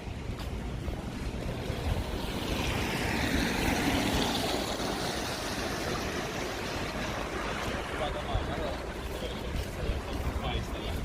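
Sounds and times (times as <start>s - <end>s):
traffic noise: 0.0s - 11.0s
tyres hissing on wet street: 0.0s - 11.0s.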